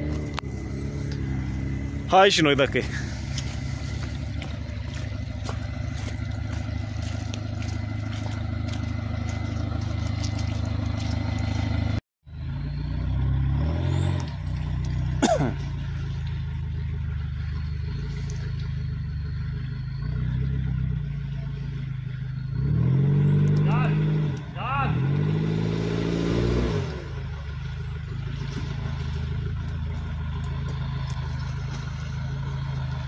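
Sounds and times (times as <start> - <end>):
suv engines running: 0.0 - 33.0.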